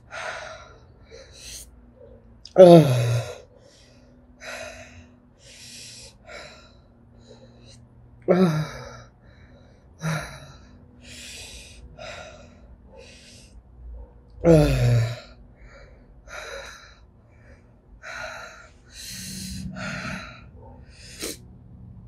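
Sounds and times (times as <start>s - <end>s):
woman breathing hard: 0.0s - 1.8s, 2.8s - 13.6s, 14.5s - 21.4s.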